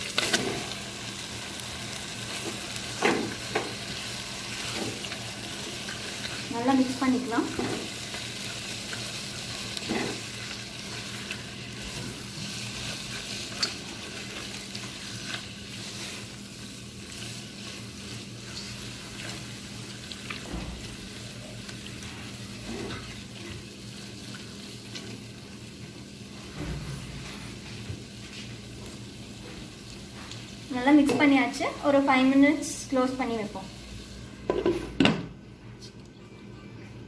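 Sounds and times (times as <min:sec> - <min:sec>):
chicken sizzling in a frying pan: 0:00.0 - 0:34.9.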